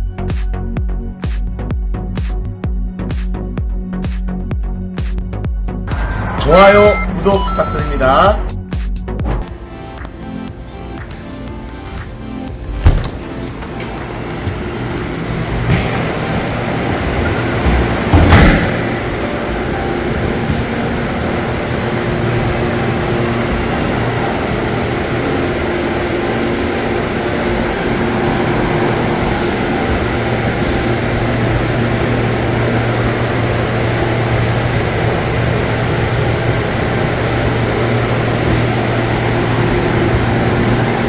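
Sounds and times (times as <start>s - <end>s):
refrigeration unit humming: 5.4s - 41.0s.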